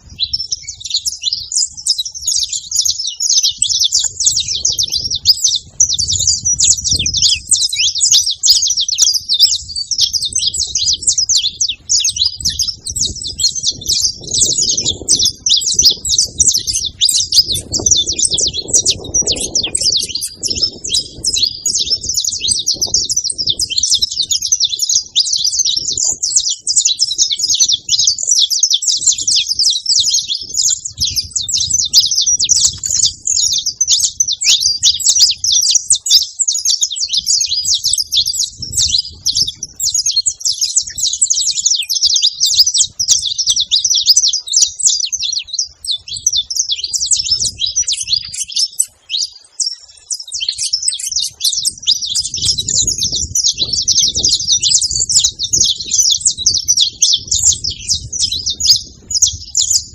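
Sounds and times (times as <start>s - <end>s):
flock of finches chirping: 0.0s - 59.9s.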